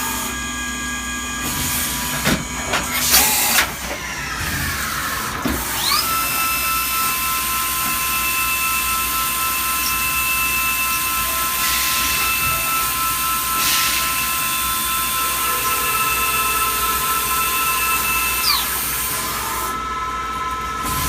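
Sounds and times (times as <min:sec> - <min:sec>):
milling machine spindle whine: 0:00.0 - 0:21.0.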